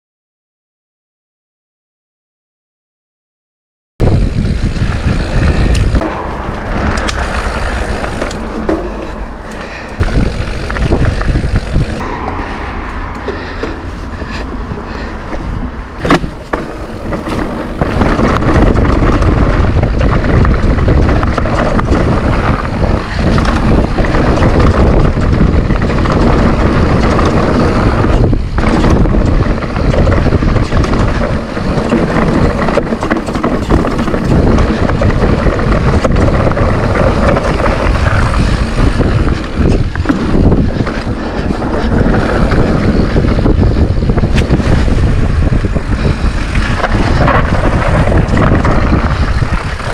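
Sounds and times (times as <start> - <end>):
bike knocks and rattles: 4.0 - 49.9
tyres rumbling on dirt: 4.0 - 49.9
wind buffeting microphone: 4.0 - 49.9.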